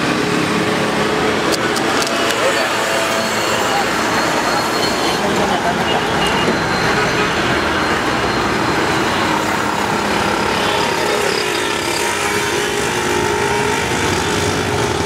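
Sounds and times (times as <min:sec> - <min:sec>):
motorcycles passing: 0:00.0 - 0:15.0
road traffic noise: 0:00.0 - 0:15.0.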